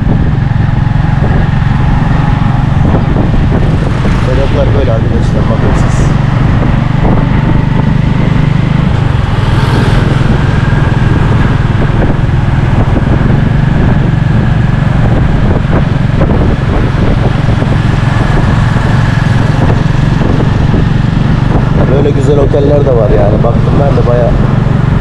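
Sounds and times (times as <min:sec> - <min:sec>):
motorbike engine running: 0:00.0 - 0:25.0
road noise: 0:00.0 - 0:25.0.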